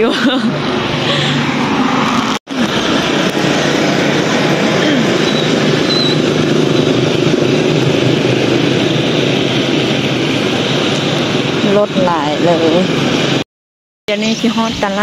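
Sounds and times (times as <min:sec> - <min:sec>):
motorcycles passing: 0:00.0 - 0:13.4
pickup truck passing: 0:00.0 - 0:13.4.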